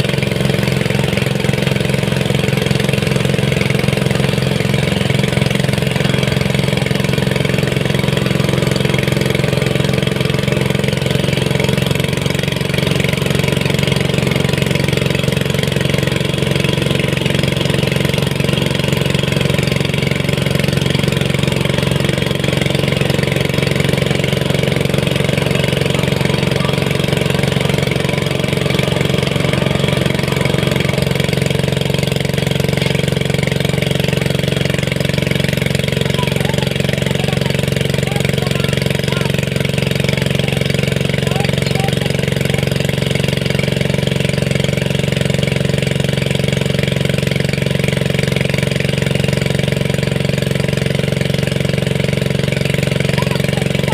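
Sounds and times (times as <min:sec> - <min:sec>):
small engine running: 0:00.0 - 0:53.9.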